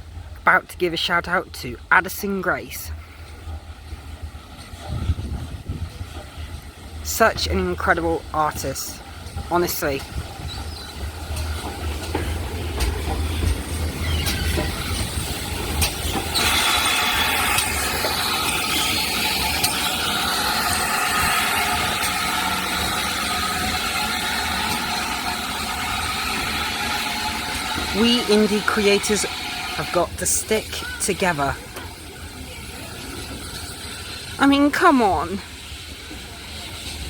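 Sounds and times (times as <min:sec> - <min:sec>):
steady steam hiss: 0:00.0 - 0:37.0
steam locomotive low rumble: 0:00.0 - 0:37.0.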